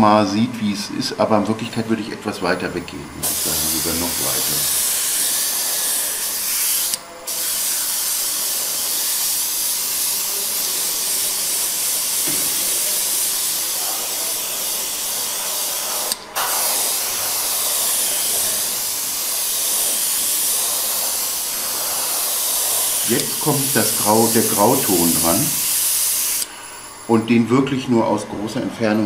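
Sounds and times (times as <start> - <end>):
airbrush spraying hiss: 3.2 - 27.3.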